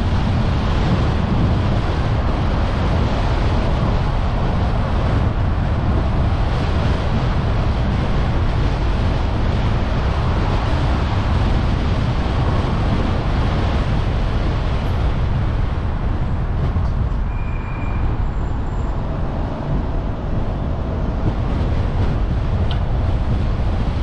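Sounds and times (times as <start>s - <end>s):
car road and wind rumble: 0.0s - 24.0s.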